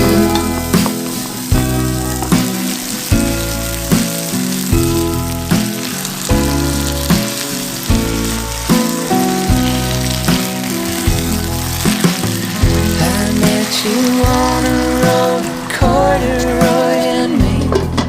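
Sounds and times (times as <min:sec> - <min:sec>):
food sizzling in a pan: 0:00.0 - 0:17.6
background music with a beat: 0:00.0 - 0:18.0.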